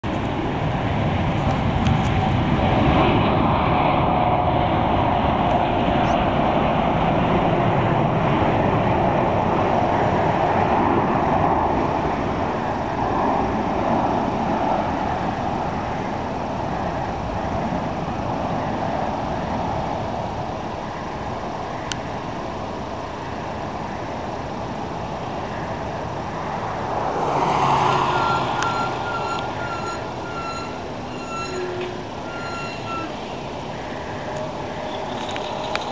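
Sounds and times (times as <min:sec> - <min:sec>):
jet engine rumble: 0:00.0 - 0:35.9
faint jet engine whine: 0:00.1 - 0:35.9.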